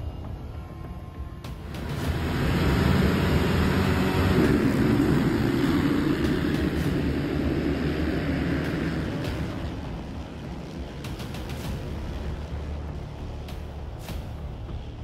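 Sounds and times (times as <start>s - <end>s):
motocross engines roaring: 1.5s - 15.0s.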